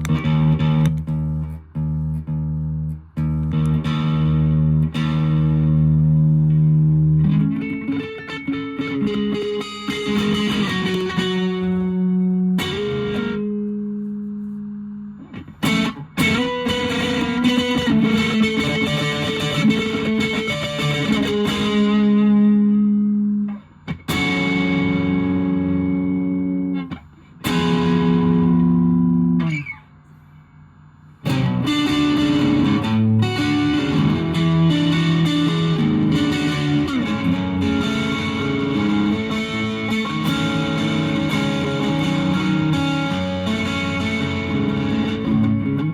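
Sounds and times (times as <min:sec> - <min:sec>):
distorted electric guitar chords: 0:00.0 - 0:45.9.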